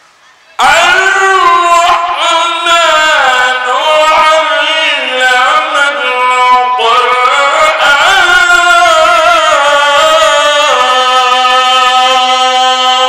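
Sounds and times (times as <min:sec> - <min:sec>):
man chanting into a microphone: 0:00.6 - 0:13.0.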